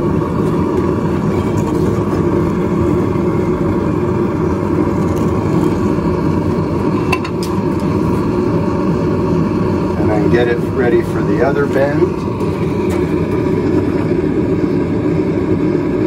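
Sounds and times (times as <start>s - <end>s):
gas forge burner rushing: 0.0s - 16.0s.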